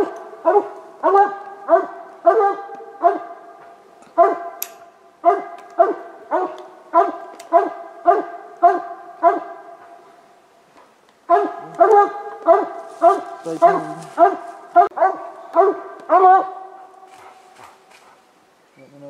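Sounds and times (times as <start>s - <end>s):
dog barking: 0.0s - 4.6s, 5.2s - 10.0s, 11.3s - 18.3s.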